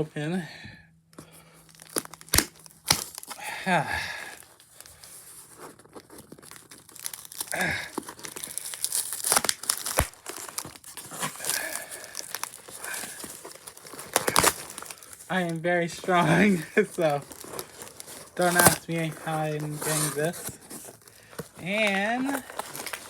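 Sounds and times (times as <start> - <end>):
packaging rustling and tearing: 1.3 - 23.0.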